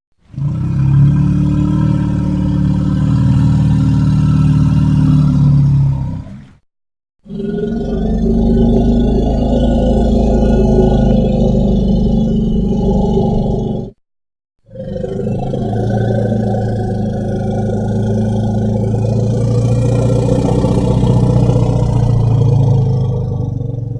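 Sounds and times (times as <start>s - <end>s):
deep roaring bellow: 0.2s - 6.6s, 7.3s - 14.0s, 14.7s - 23.9s.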